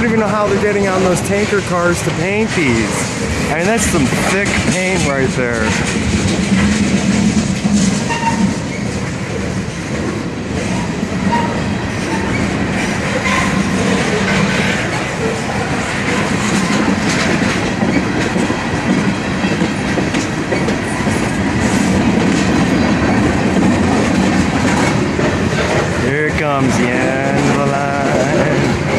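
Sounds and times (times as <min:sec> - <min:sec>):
train wheels rumbling on rails: 0:00.0 - 0:28.9
wheels clacking over rail joints: 0:00.0 - 0:28.9.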